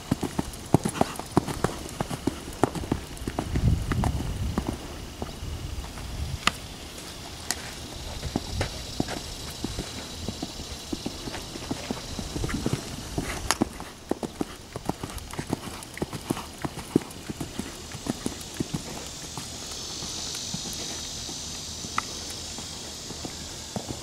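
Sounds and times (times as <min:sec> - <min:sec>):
high hiss: 0:00.0 - 0:24.0
horse hooves thudding on sand: 0:00.0 - 0:24.0.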